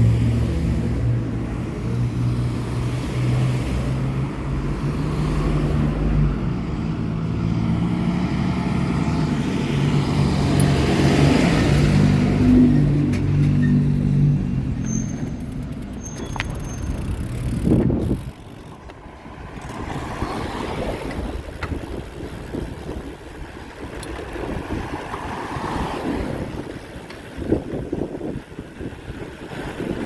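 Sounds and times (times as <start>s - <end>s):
vehicle engine humming: 0.0s - 30.0s
wind and road noise: 0.0s - 30.0s.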